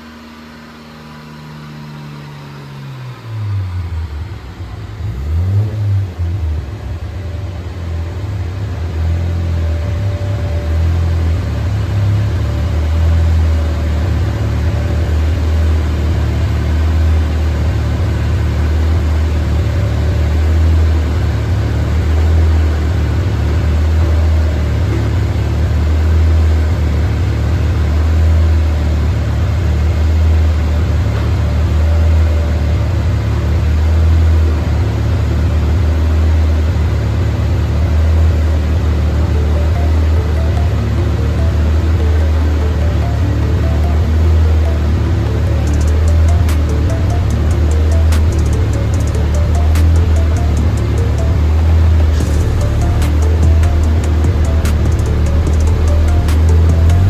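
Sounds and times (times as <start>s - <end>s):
car engine rumbling: 0.0s - 57.0s.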